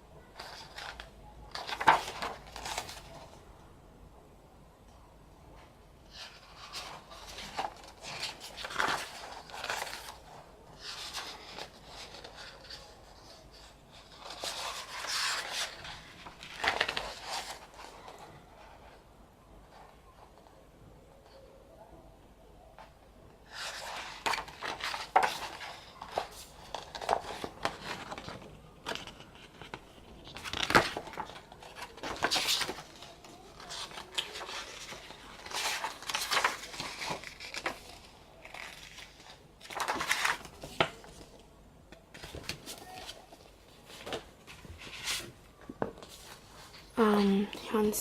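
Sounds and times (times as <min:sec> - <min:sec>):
paper pages rustling: 0:00.4 - 0:03.4, 0:06.1 - 0:19.0, 0:23.5 - 0:41.5, 0:42.1 - 0:47.3.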